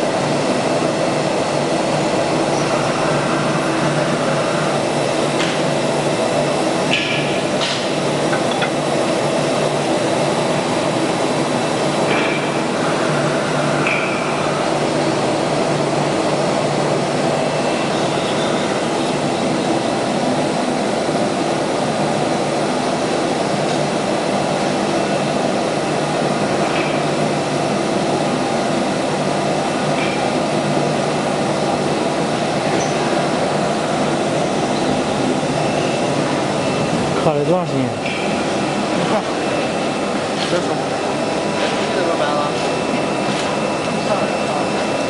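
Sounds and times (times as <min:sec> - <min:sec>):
cnc router drone: 0:00.0 - 0:45.0.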